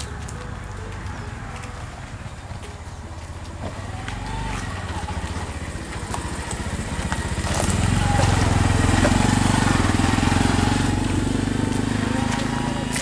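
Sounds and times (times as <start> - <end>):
auto-rickshaw engine running: 0.0 - 13.0.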